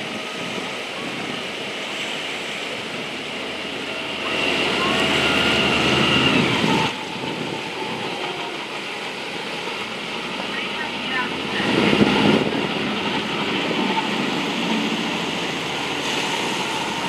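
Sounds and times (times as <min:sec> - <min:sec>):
vehicle engine whining: 0:00.0 - 0:17.0.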